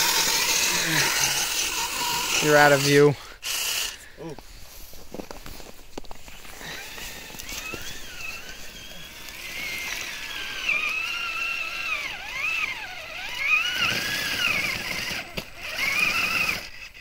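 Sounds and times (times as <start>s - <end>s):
electric motor whining: 0.0s - 4.0s, 6.2s - 17.0s.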